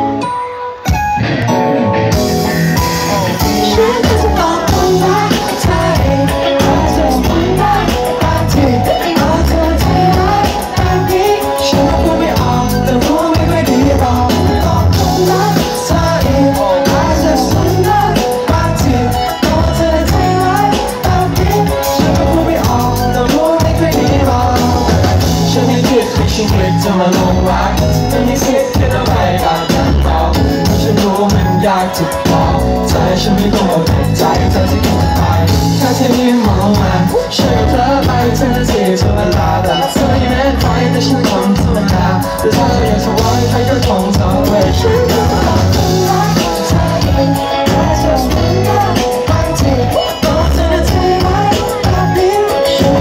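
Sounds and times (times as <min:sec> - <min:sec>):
live pop-rock band: 0:00.0 - 0:53.0.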